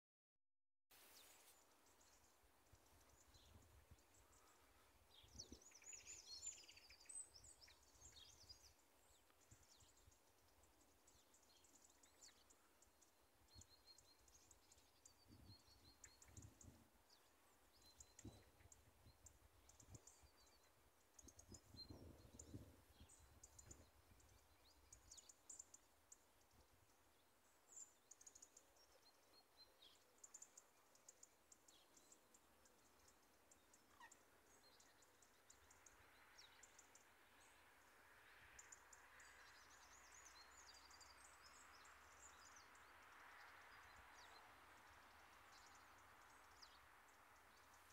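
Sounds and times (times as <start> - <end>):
small birds chirping: 1.0 - 47.9.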